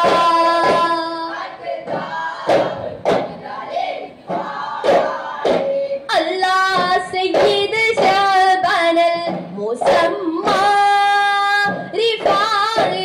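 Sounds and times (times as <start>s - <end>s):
boys singing in chorus: 0.0s - 13.0s
frame drum beats: 0.0s - 13.0s.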